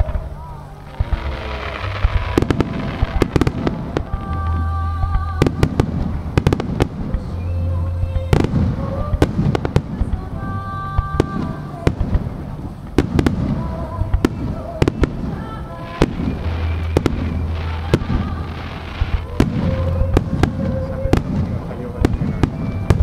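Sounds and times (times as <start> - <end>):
fireworks bursting with crackling: 0.0 - 23.0
music with held notes: 0.0 - 23.0.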